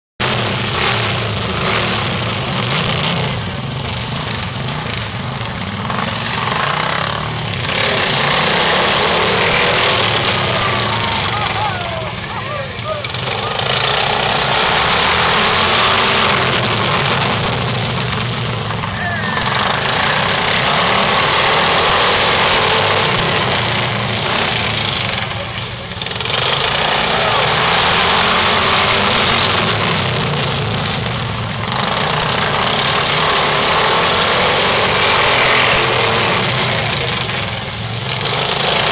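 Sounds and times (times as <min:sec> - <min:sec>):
small mower engines running: 0:00.2 - 0:38.9.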